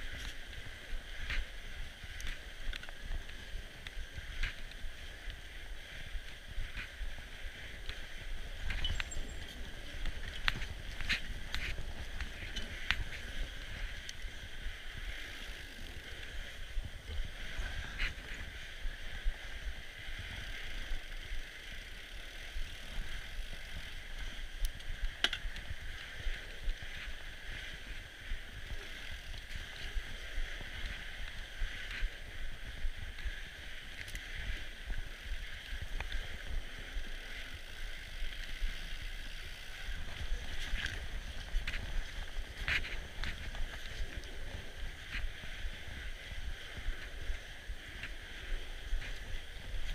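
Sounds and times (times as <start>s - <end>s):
bike clicks and rattles: 0.0s - 49.9s
wind on microphone: 0.0s - 49.9s.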